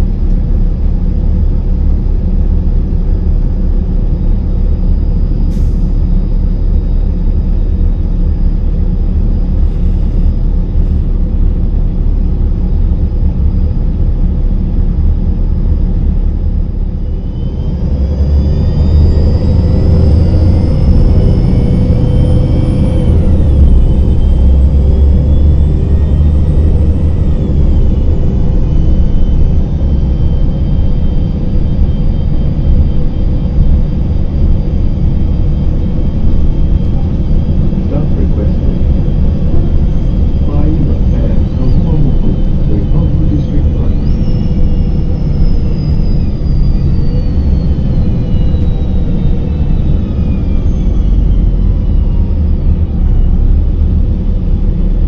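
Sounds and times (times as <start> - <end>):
bus diesel engine idling: 0.0 - 45.7
high whine: 0.0 - 55.0
engine accelerating: 4.5 - 55.0.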